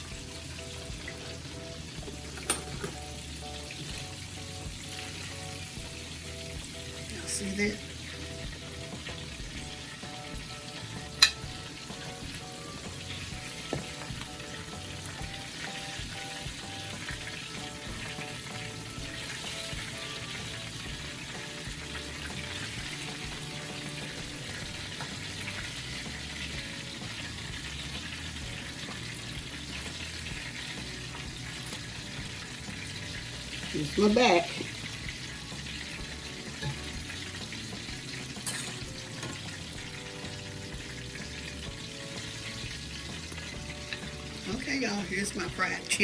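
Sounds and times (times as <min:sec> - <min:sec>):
chicken sizzling in frying oil: 0:00.0 - 0:46.0.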